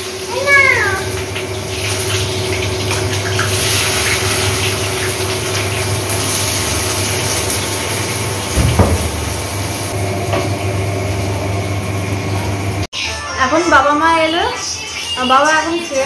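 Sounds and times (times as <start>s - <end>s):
food sizzling in hot oil: 0.0s - 12.9s.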